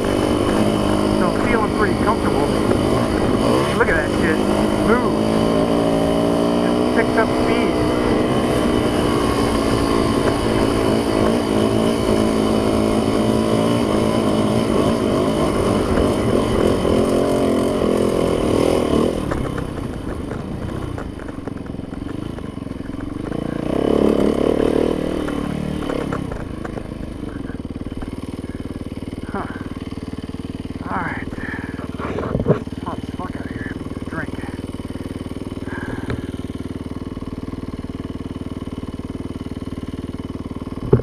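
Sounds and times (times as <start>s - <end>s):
dirt bike engine running hard: 0.0s - 41.0s.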